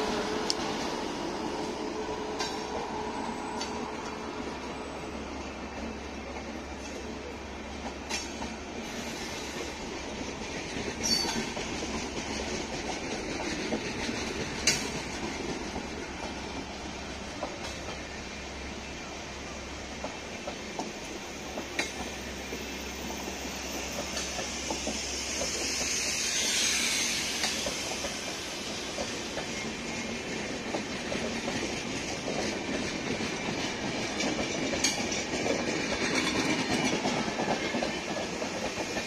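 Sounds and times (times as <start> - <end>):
train wheels clacking: 0.0 - 18.8, 19.8 - 39.0
steel wheels rumbling on rail: 0.0 - 39.0.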